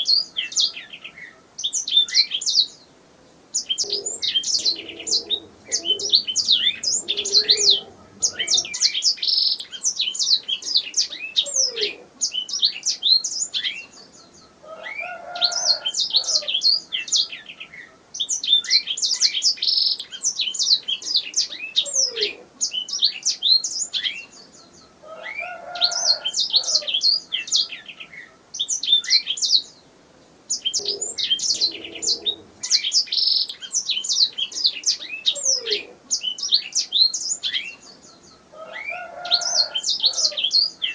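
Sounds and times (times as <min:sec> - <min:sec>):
canary singing: 0:00.0 - 0:02.8, 0:03.5 - 0:29.8, 0:30.5 - 0:40.9.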